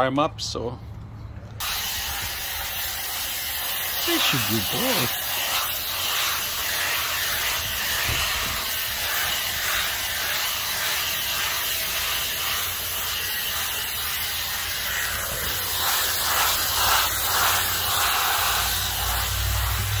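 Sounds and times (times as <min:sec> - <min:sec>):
blow dryer hissing air: 0:01.6 - 0:20.0.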